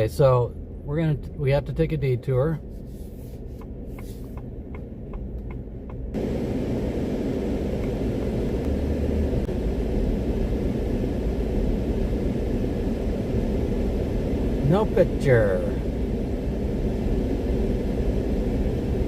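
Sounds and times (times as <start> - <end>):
road and wind noise in vehicle: 0.0 - 19.0.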